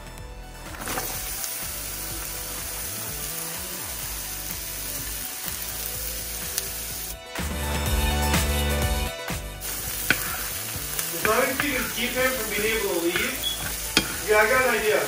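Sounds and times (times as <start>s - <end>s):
food sizzling in a pan: 0.8s - 7.6s, 9.3s - 15.0s.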